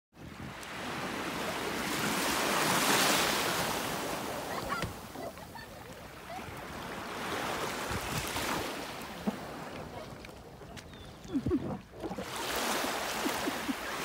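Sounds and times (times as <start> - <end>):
small waves washing on shore: 0.2 - 14.0.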